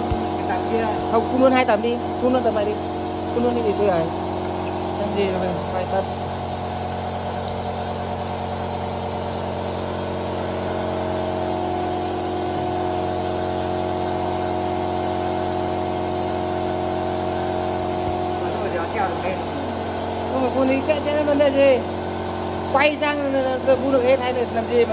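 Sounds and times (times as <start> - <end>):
air compressor humming: 0.0 - 24.9.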